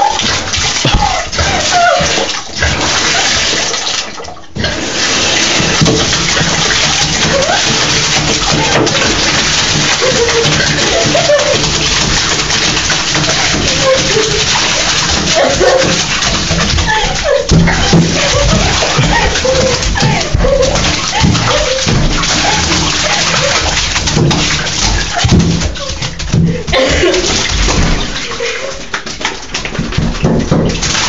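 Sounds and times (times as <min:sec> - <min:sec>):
water rushing in a tub: 0:00.0 - 0:31.0.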